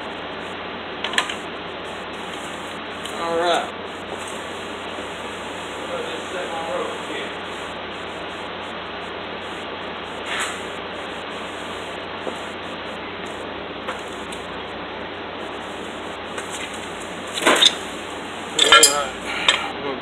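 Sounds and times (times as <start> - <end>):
low hum: 0.0 - 19.8
steady rushing noise: 0.0 - 20.0.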